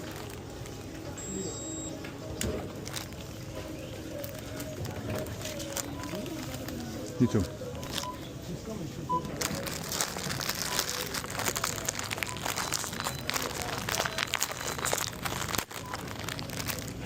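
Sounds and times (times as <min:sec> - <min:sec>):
plastic crinkling and rustling: 0:00.0 - 0:01.2, 0:02.4 - 0:08.3, 0:09.2 - 0:17.0.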